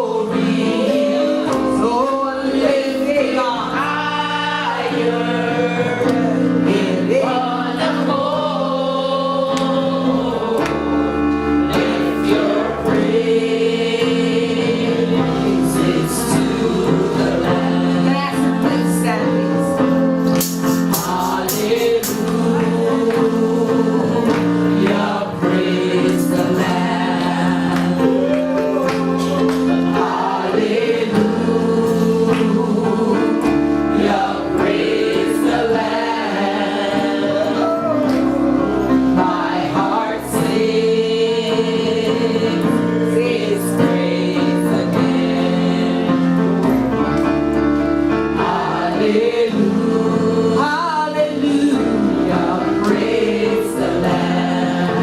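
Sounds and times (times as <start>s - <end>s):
gospel choir singing: 0.0s - 55.0s.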